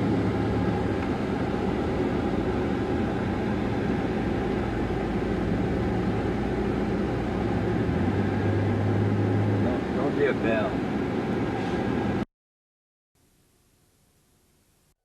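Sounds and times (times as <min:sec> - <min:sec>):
air conditioning blowing: 0:00.0 - 0:12.2
engine and road rumble: 0:00.0 - 0:12.3.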